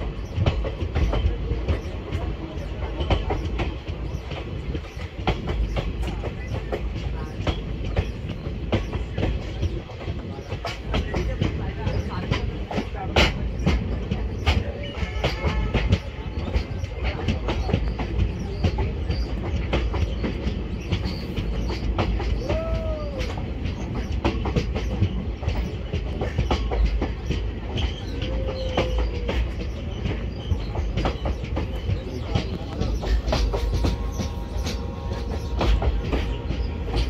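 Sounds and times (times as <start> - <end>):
train rumble with clickety-clack: 0.0 - 37.0
wheel squeals: 0.0 - 37.0.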